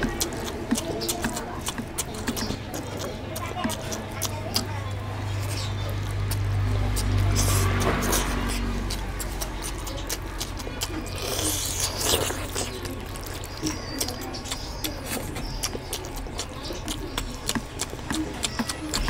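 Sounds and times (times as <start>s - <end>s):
person chewing wetly: 0.0s - 19.0s.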